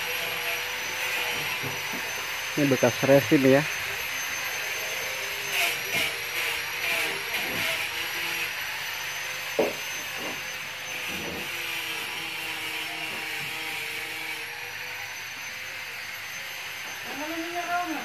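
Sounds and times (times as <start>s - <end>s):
machine humming with high whine: 0.0s - 18.0s.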